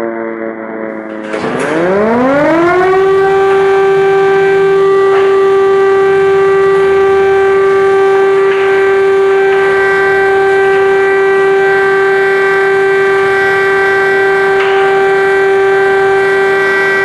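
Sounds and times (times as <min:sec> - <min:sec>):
air-raid siren steady tone: 0:00.0 - 0:17.0.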